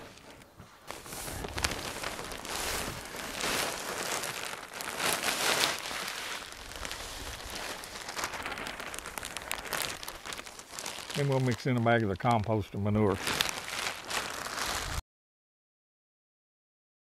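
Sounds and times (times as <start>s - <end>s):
plastic bag rustling: 0.0s - 15.0s
compost pouring into wheelbarrow: 0.9s - 15.0s.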